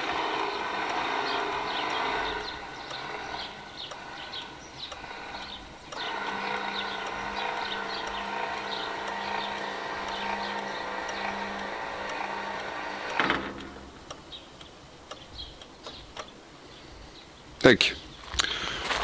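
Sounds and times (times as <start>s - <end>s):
electric gate motors running: 0.0s - 16.7s.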